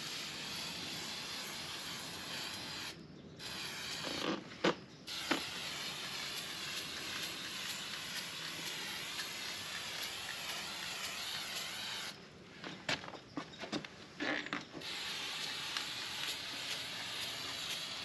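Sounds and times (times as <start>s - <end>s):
aerosol can spraying: 0.0s - 4.4s, 5.1s - 12.2s, 14.8s - 18.0s.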